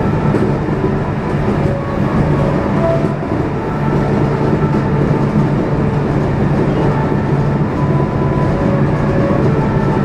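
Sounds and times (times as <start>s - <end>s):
train rail noise rumble: 0.0s - 10.0s.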